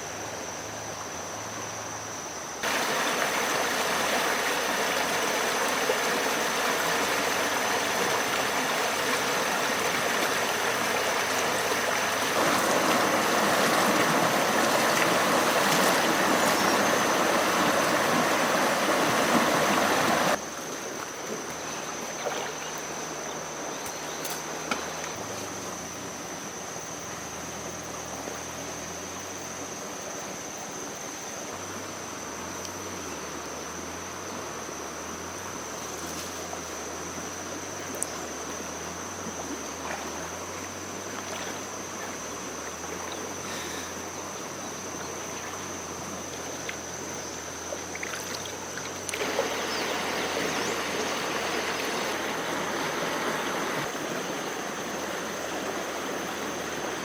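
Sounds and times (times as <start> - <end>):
quiet outdoor ambience: 0.0 - 57.0
rushing water: 2.6 - 57.0.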